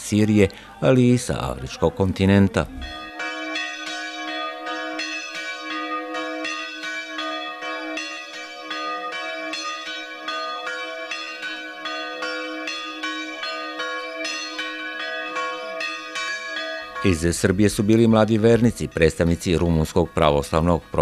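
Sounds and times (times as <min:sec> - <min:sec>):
church bells pealing: 0:00.1 - 0:21.0.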